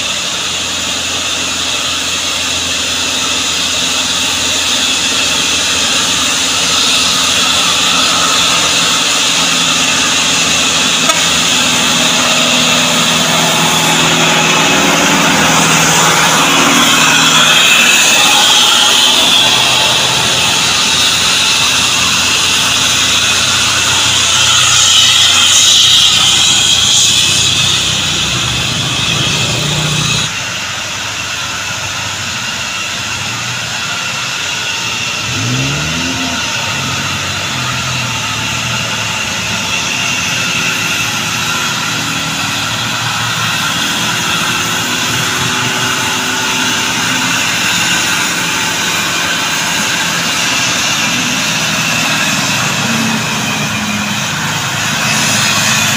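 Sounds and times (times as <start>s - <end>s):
crane diesel engine running: 0.0s - 55.9s
high whistling hiss: 0.4s - 55.9s.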